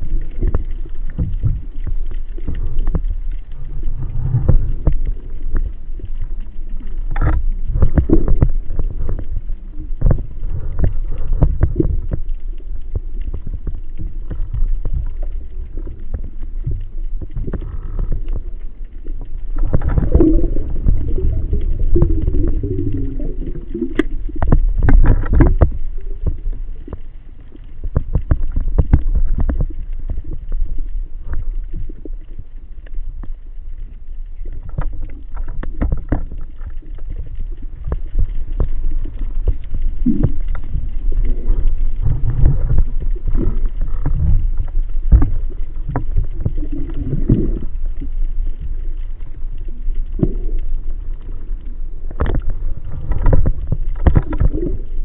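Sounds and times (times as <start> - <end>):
muffled water sloshing and bubbling: 0.0 - 55.0.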